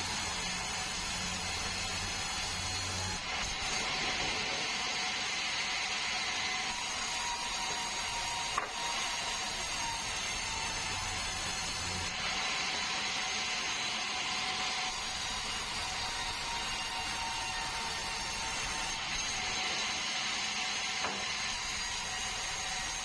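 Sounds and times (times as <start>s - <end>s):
sawmill saw cutting log: 0.0s - 23.0s.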